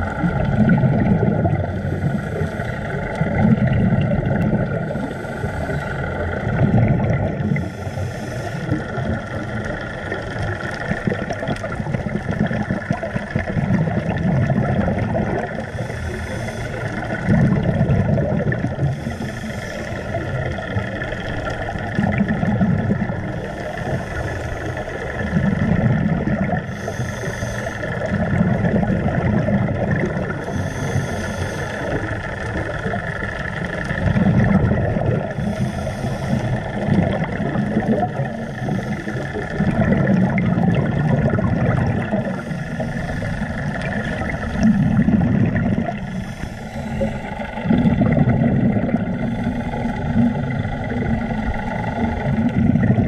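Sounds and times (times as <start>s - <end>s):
bubbling exhaled air: 0.0s - 53.0s
steady hum: 0.0s - 53.0s
scuba regulator breathing: 1.1s - 53.0s.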